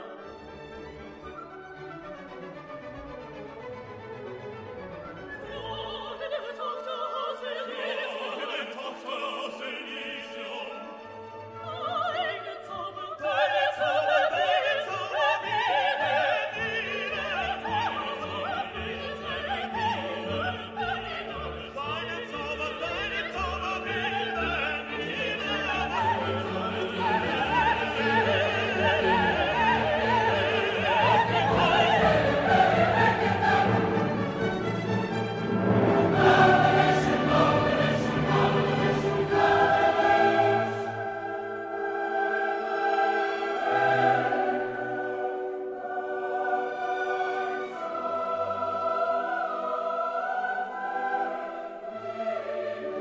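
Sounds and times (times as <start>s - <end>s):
orchestral music: 0.0s - 53.0s
operatic singing: 4.7s - 53.0s.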